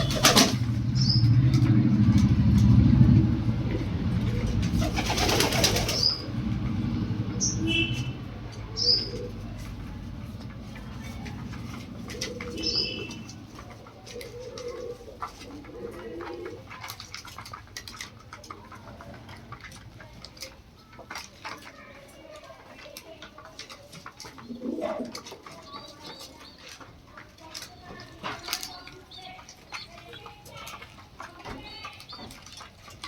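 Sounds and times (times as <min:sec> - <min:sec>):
pigeons cooing: 0:00.0 - 0:19.8, 0:23.7 - 0:33.0.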